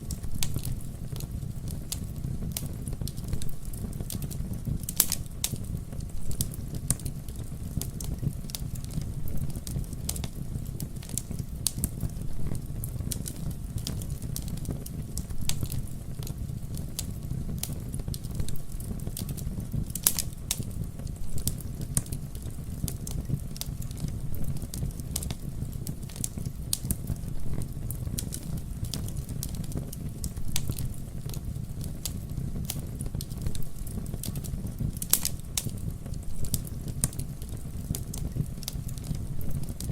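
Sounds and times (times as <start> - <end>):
campfire flames rumbling: 0.0 - 39.9
wood crackling and popping: 0.0 - 39.9.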